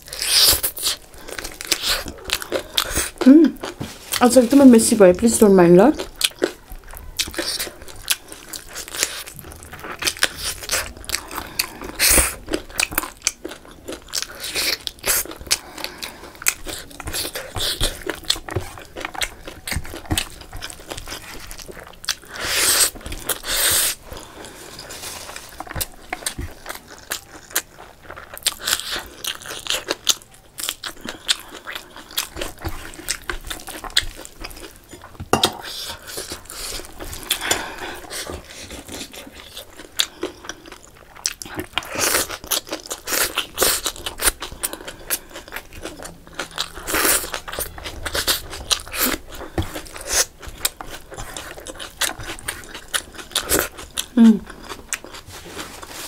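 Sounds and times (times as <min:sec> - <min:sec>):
wet chewing and mouth smacking: 0:00.0 - 0:04.3, 0:06.0 - 0:56.0.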